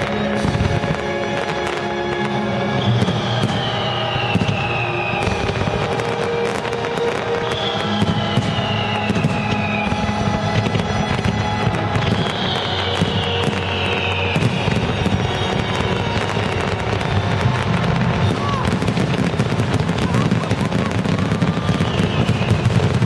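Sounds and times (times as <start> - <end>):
fireworks bangs and crackling: 0.0 - 23.0
music soundtrack: 0.0 - 23.0.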